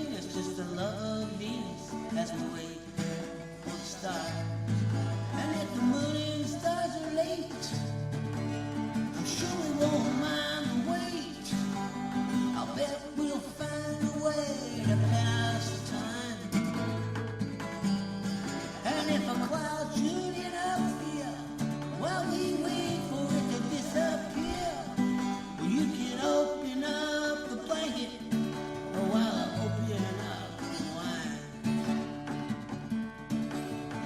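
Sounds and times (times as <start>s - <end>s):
person singing: 0.0s - 8.1s, 9.0s - 31.8s
guitar: 0.0s - 34.0s.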